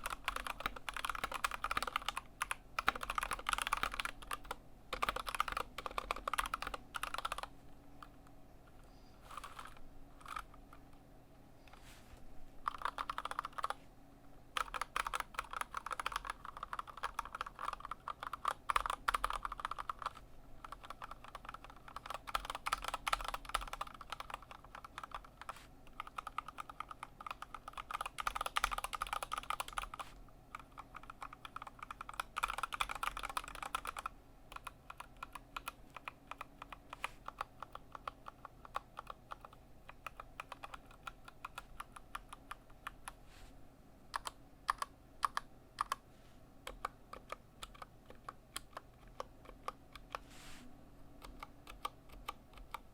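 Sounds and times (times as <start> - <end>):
mechanical keyboard typing: 0.0 - 8.1, 9.3 - 10.9, 12.6 - 13.8, 14.5 - 43.2, 44.1 - 46.0, 46.6 - 50.2, 51.2 - 52.9.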